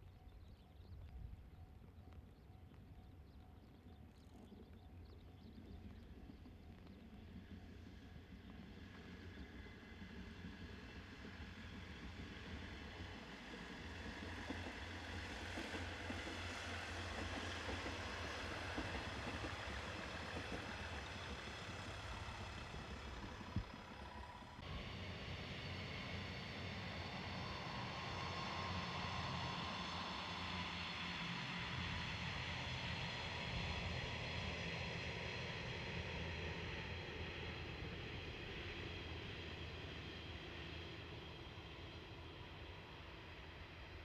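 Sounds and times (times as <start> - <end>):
distant diesel train passing: 0.0 - 44.0.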